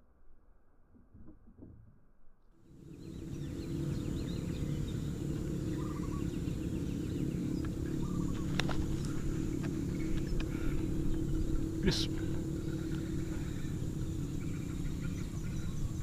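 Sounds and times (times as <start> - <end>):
low rumble: 2.7 - 16.0
faint bird chirps: 2.8 - 16.0.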